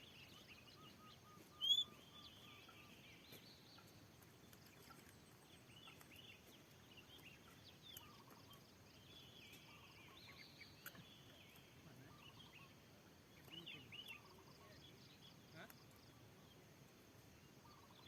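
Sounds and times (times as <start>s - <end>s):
faint bird chirps and whistles: 0.0s - 3.9s, 4.7s - 16.6s.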